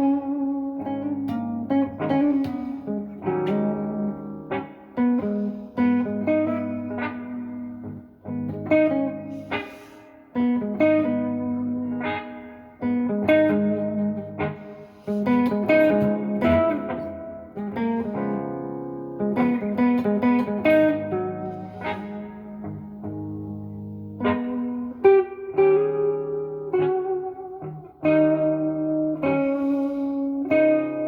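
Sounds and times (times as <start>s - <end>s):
electric guitar playing blues lead: 0.0s - 31.0s.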